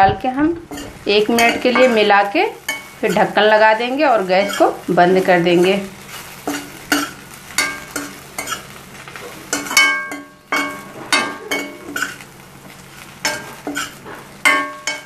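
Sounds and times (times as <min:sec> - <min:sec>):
faint sizzle: 0:00.0 - 0:15.0
metal spatula scraping pan: 0:00.7 - 0:04.9, 0:05.5 - 0:12.3, 0:13.2 - 0:15.0.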